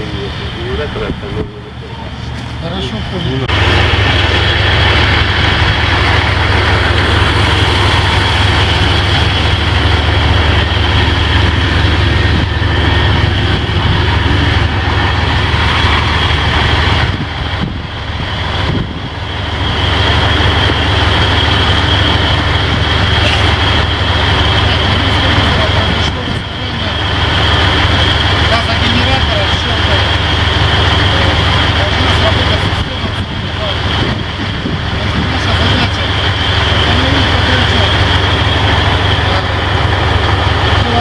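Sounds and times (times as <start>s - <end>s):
high-pitched machinery whine: 0.0s - 41.0s
machinery low rumble: 0.0s - 41.0s.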